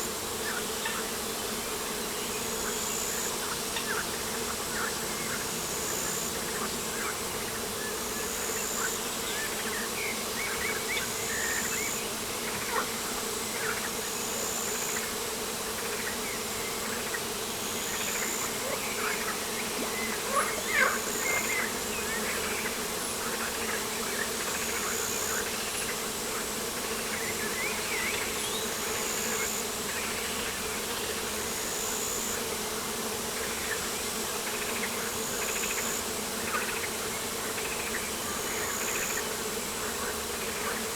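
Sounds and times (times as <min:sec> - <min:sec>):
insect buzzing: 0:00.0 - 0:40.9.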